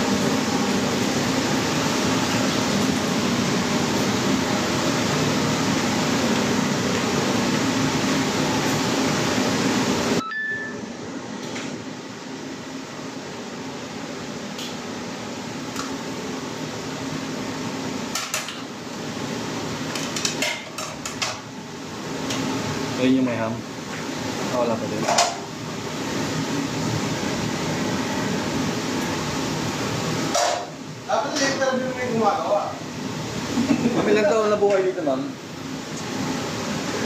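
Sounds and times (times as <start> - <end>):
kitchen ventilation fan: 0.0 - 37.0.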